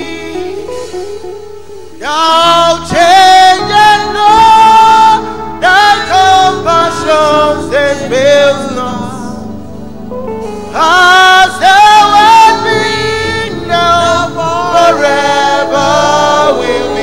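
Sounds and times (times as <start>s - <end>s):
man singing into a microphone: 0.0s - 1.0s, 2.0s - 9.5s, 10.7s - 17.0s
instrumental backing music: 0.0s - 17.0s.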